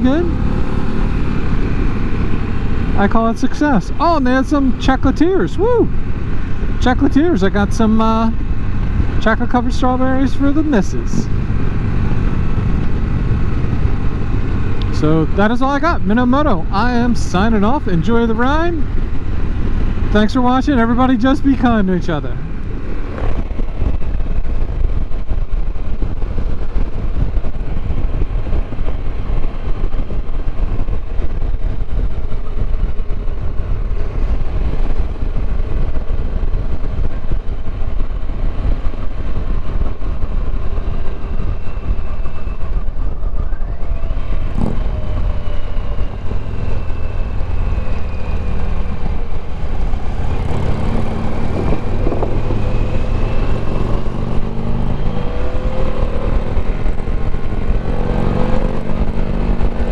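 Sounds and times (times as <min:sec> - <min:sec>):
motorcycle engine: 0:00.0 - 0:59.9
wind rumble on microphone: 0:00.0 - 0:59.9.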